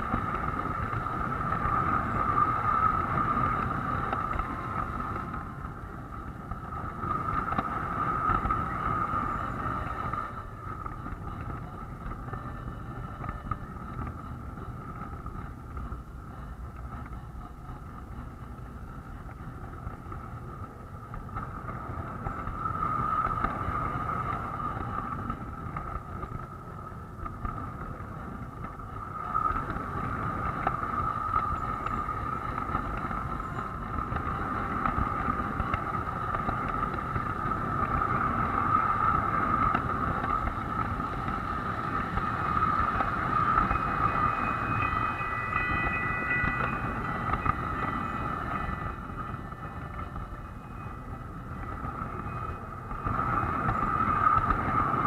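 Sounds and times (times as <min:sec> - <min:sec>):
high hum: 0:00.0 - 0:55.0
model train wheels rumbling: 0:00.0 - 0:55.0.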